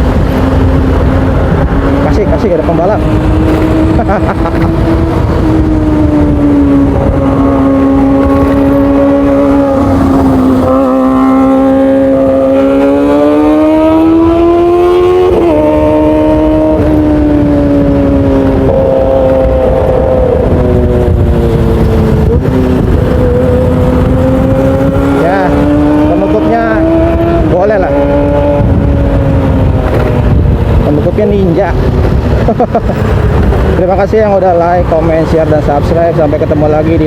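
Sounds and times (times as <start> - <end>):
motorcycle engine accelerating: 0.0 - 37.0
wind rumble on microphone: 0.0 - 37.0.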